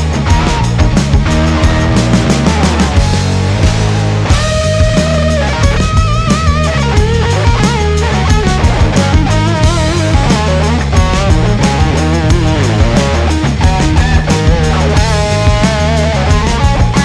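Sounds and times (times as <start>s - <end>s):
drum kit beat: 0.0s - 17.0s
electric guitar lead lines: 0.0s - 17.0s.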